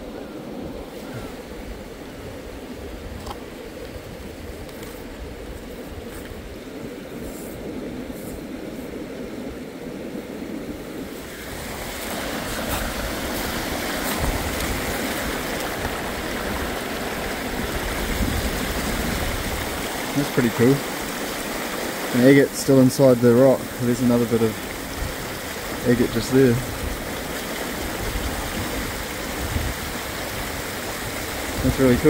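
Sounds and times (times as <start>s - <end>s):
wind on microphone: 0.0s - 21.8s, 26.5s - 32.0s
river water flowing over stones: 0.0s - 32.0s.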